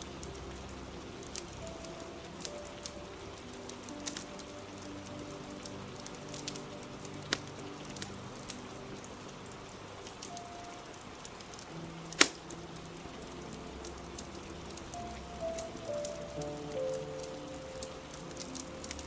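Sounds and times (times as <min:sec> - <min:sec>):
fire crackling: 0:00.0 - 0:19.0
soft music with held notes: 0:00.0 - 0:19.0
steady rain: 0:00.0 - 0:19.0.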